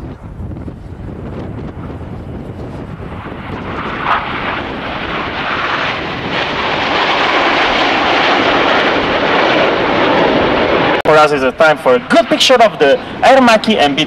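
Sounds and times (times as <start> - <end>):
jet aircraft flying past: 0.2 - 14.0.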